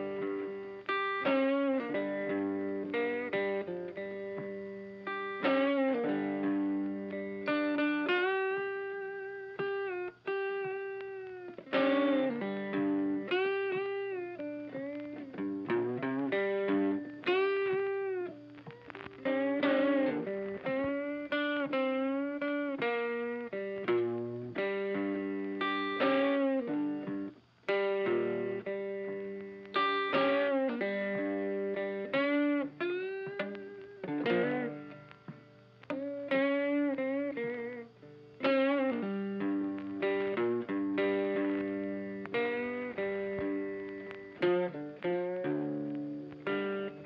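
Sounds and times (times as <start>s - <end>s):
music with wavering melody: 0.0s - 47.0s.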